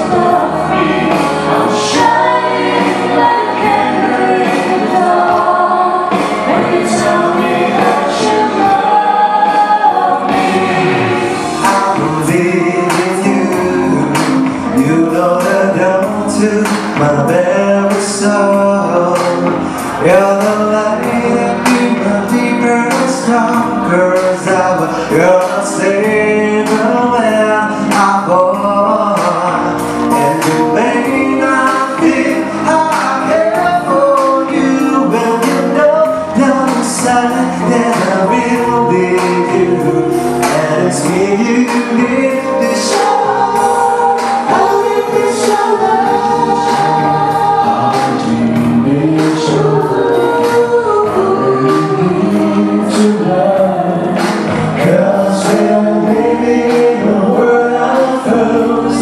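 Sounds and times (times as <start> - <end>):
live band with steady beat: 0.0 - 59.0
man and woman singing: 0.0 - 59.0.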